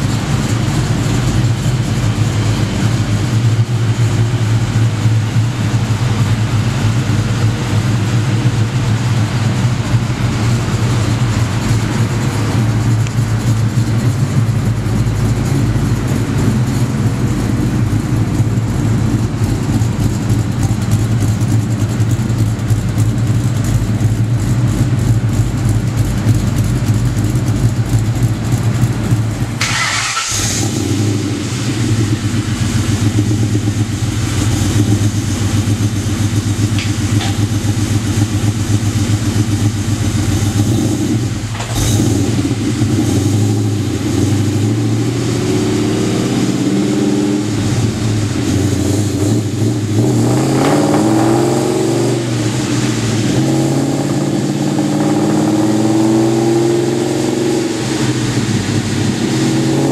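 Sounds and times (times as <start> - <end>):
car engine idling: 0.0 - 59.9
engine running on a dyno: 0.0 - 59.9.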